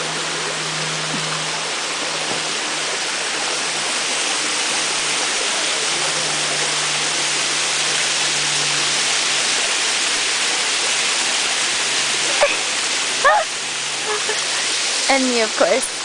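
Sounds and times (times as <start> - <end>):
hiss of falling water: 0.0 - 16.0.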